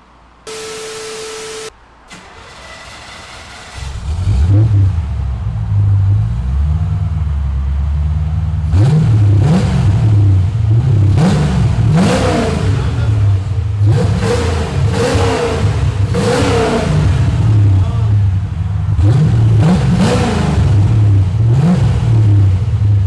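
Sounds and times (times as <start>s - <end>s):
car engine idling and revving: 0.1s - 23.0s.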